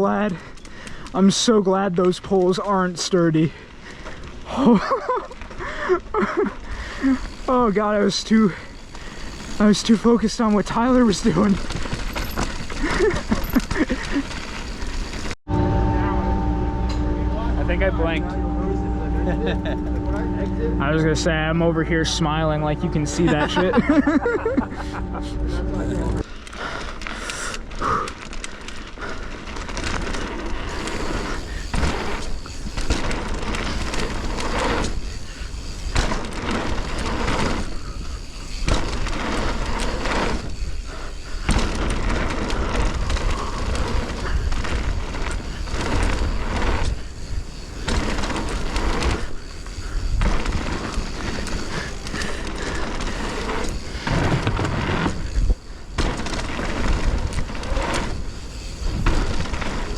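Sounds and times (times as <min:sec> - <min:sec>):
bike tyres rolling and rattling: 0:00.0 - 0:15.6, 0:19.2 - 0:59.9.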